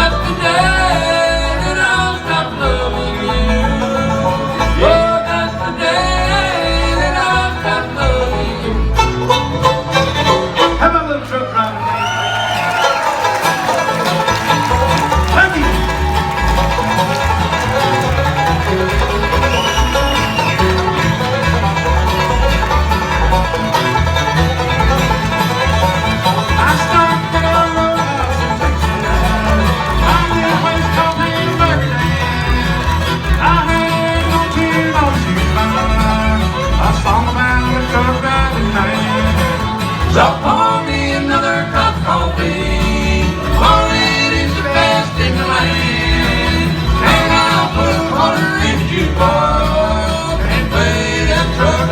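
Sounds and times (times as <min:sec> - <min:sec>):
pulsing bass line: 0:00.0 - 0:11.1, 0:13.4 - 0:51.9
banjo: 0:00.0 - 0:11.8, 0:12.6 - 0:51.9
fiddle: 0:00.0 - 0:51.9
guitar: 0:00.0 - 0:51.9.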